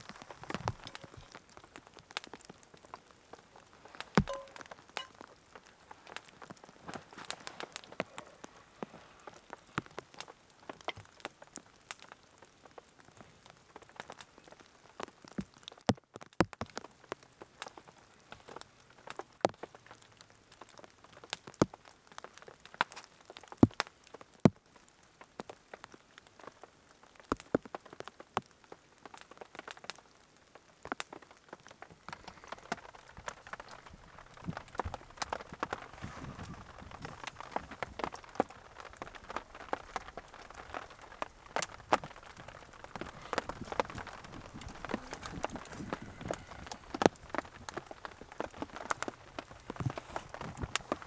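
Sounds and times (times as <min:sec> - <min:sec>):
campfire crackling: 0:00.0 - 0:51.0
raindrops tapping on tarp: 0:00.0 - 0:51.0.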